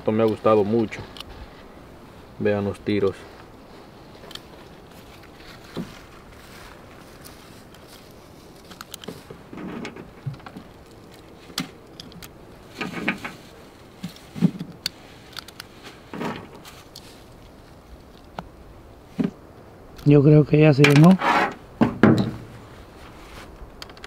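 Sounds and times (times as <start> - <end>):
handling rustle: 0.0 - 20.2, 20.8 - 24.0.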